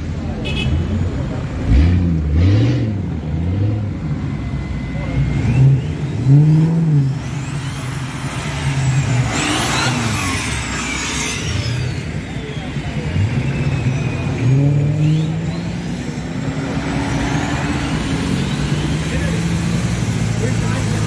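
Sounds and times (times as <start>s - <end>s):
off-road vehicles revving past: 0.0s - 21.0s.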